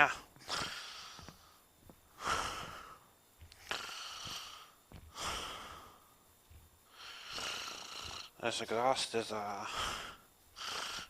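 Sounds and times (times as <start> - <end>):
person breathing heavily: 0.0 - 8.4, 9.5 - 11.0.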